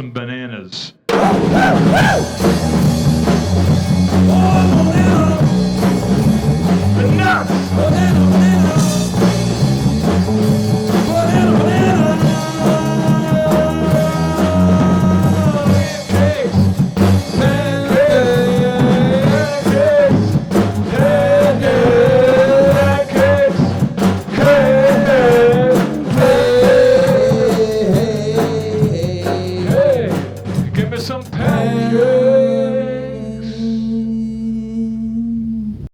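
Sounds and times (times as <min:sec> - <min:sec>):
bass: 0:00.0 - 0:35.9
drums: 0:01.1 - 0:35.9.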